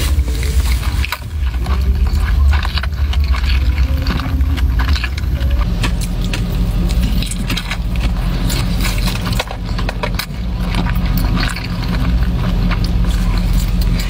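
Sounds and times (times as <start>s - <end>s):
car engine idling: 0.0s - 14.0s
chewing crisp food: 0.0s - 14.0s.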